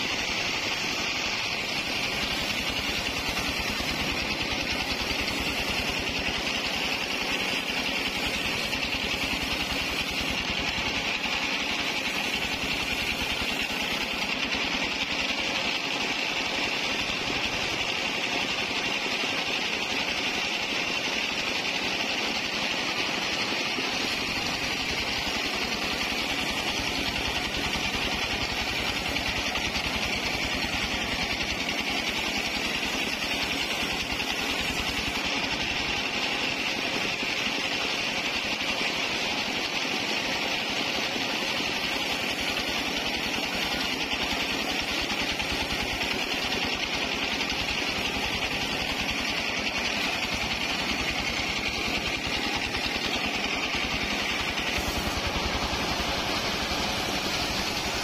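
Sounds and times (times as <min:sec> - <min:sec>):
bandsaw sawing through log: 0:00.0 - 0:20.5, 0:22.6 - 0:39.6, 0:41.4 - 0:58.0.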